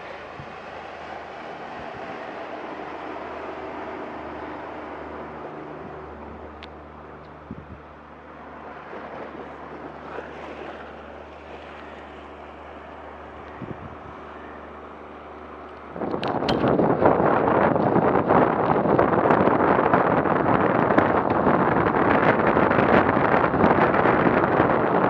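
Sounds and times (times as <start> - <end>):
wind noise: 0.0 - 14.8, 15.4 - 25.0
low motor hum: 0.0 - 25.0.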